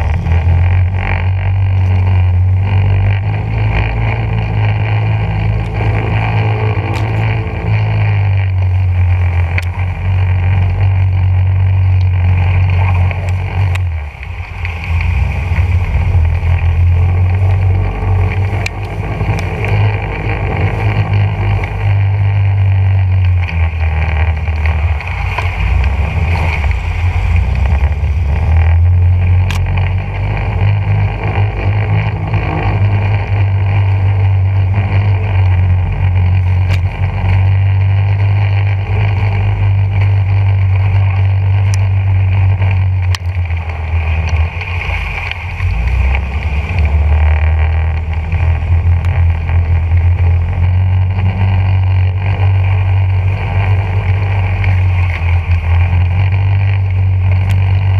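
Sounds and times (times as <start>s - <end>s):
engine droning: 0.0s - 57.9s
sharp ticks: 0.0s - 57.9s.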